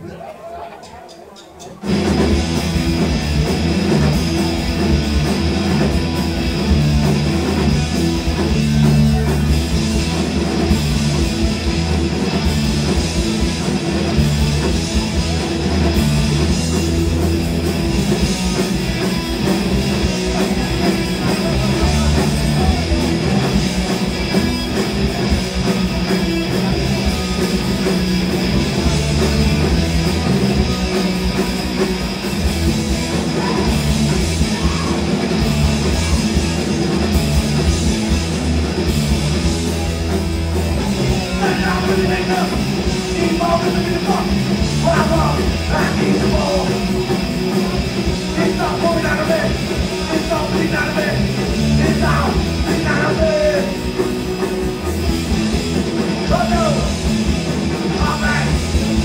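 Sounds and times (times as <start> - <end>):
punk band playing live: 1.8 - 59.0.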